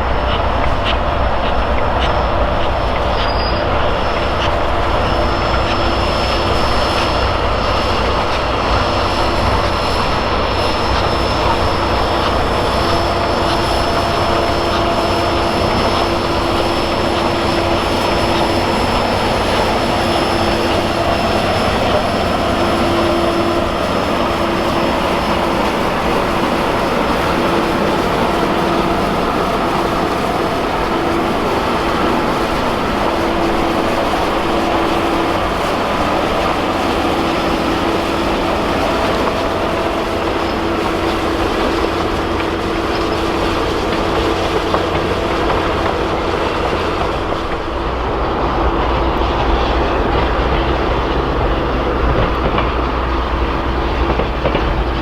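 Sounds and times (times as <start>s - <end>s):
train rumbling clatter: 0.0s - 55.0s
train wheels squealing: 0.0s - 55.0s.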